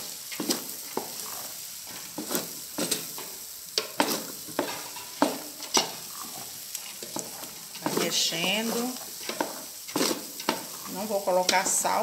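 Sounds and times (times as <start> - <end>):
food sizzling in a metal pot: 0.0 - 12.0
utensil scraping and knocking on pot: 0.3 - 12.0.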